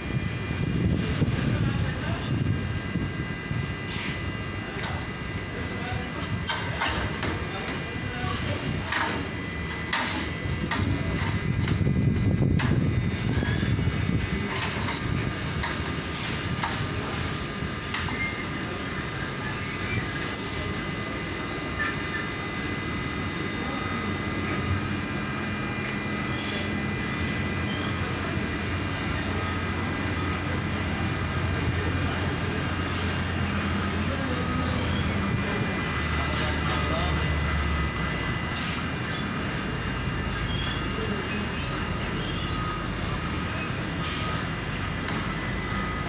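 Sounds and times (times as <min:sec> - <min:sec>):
low mechanical rumble: 0:00.0 - 0:46.0.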